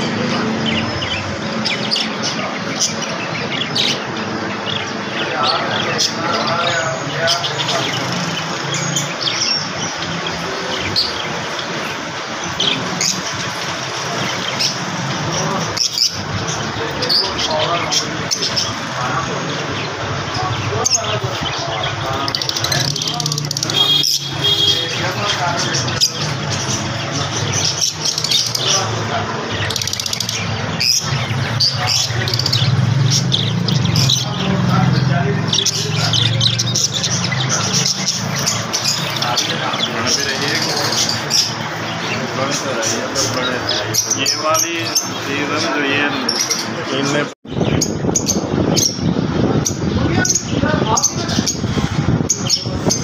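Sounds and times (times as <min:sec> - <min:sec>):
lovebirds chirping: 0:00.0 - 0:53.0.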